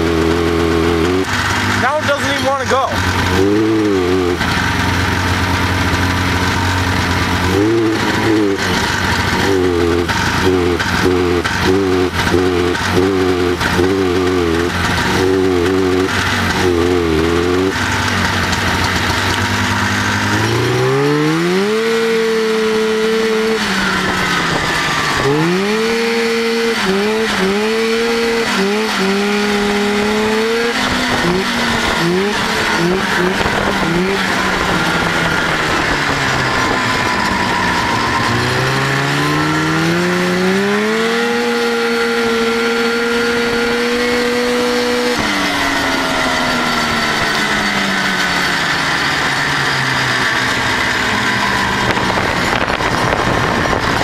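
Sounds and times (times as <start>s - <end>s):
snowmobile engine misfiring: 0.0s - 54.0s.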